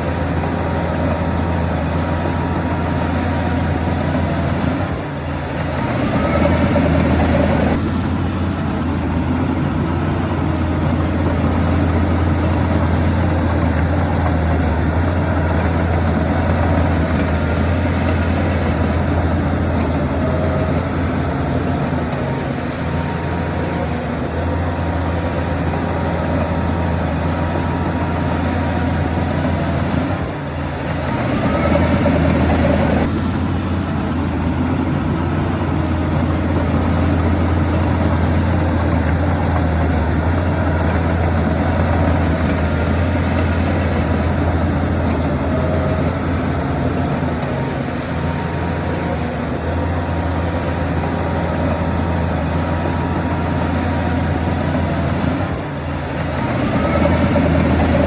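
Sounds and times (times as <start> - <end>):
heavy diesel engine revving: 0.0 - 58.0.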